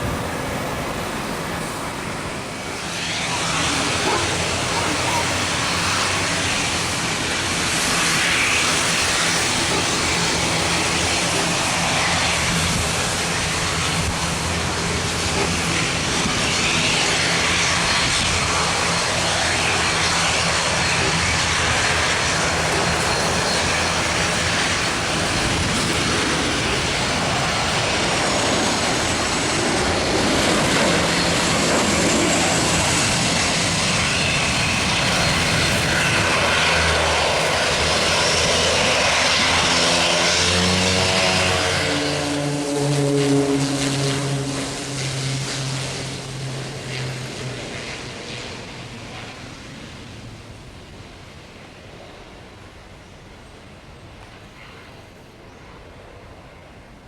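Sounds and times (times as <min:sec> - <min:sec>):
jet engine rushing noise: 0:00.0 - 0:52.2.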